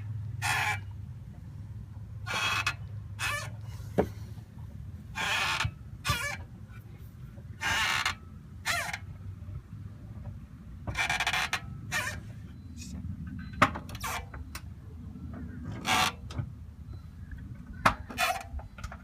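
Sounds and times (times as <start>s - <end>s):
brake scraping: 0.0s - 1.5s, 2.2s - 19.0s.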